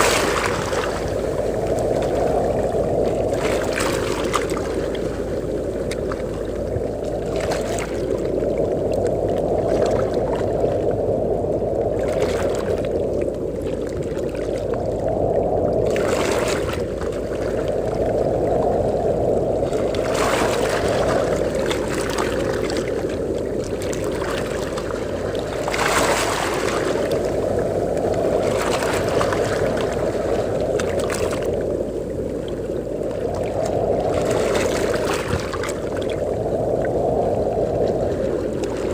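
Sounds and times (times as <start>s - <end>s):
ocean waves at shore: 0.0s - 38.9s
wind: 0.0s - 38.9s.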